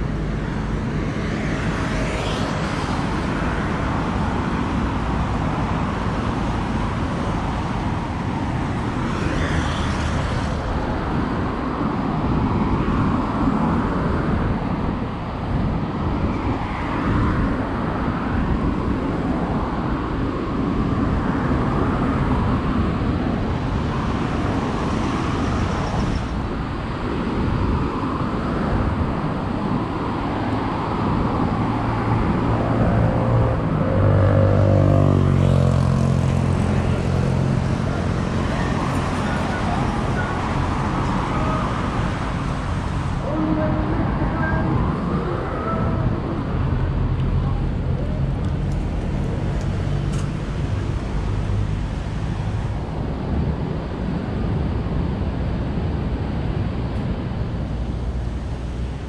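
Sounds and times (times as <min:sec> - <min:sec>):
cars passing: 0:00.0 - 0:59.0
wind on microphone: 0:00.0 - 0:59.0.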